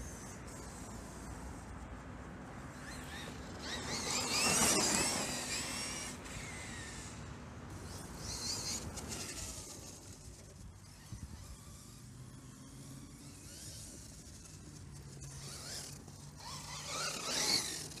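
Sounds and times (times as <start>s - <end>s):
electric motor whining: 2.8s - 18.0s.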